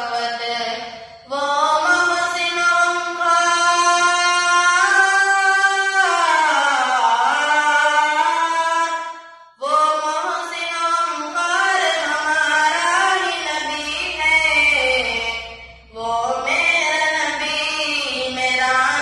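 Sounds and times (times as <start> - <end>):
boy singing unaccompanied: 0.0 - 19.0.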